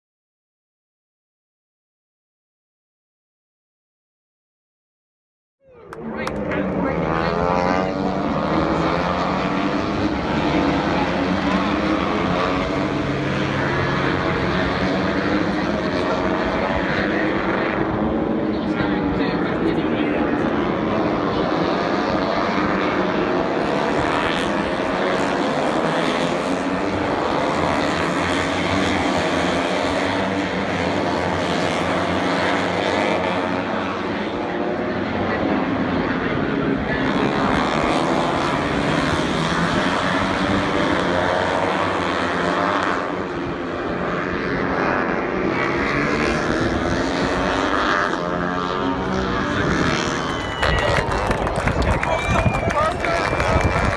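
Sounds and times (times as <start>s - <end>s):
aircraft engine drone: 5.6s - 53.9s.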